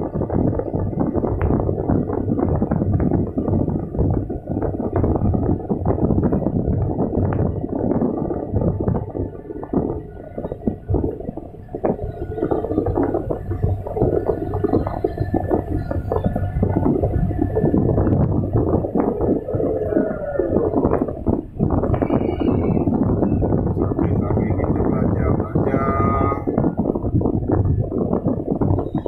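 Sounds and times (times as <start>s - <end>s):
excavator engine rumble: 0.0s - 29.0s.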